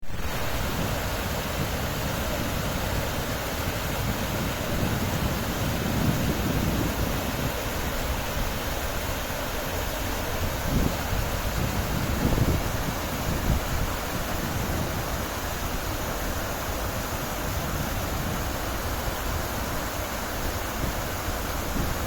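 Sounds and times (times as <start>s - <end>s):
waterfall rushing: 0.0s - 22.0s
wind buffeting microphone: 0.0s - 22.0s.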